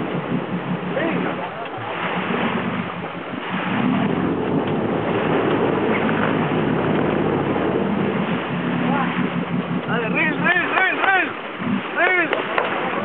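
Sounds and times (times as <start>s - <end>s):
boat engines humming: 0.0s - 13.0s
rushing water: 0.0s - 13.0s
wind: 0.0s - 13.0s.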